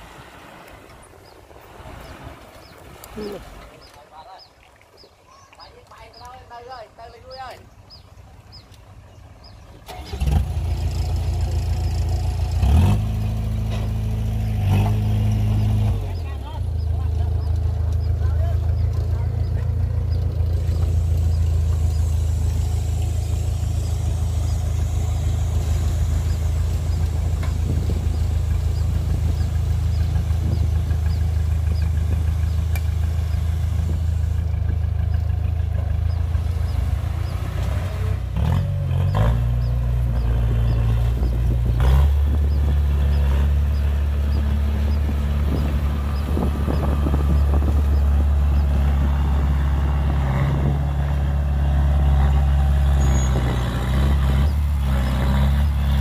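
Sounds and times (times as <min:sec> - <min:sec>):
diesel engines running: 0:05.3 - 0:56.0.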